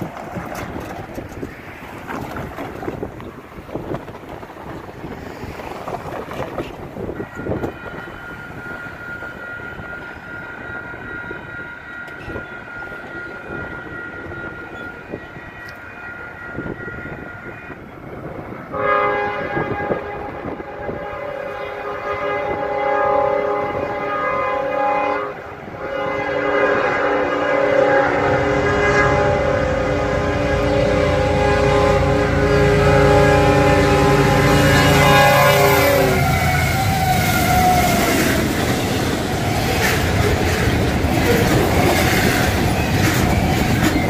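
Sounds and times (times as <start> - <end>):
locomotive air horn: 6.5 - 44.0.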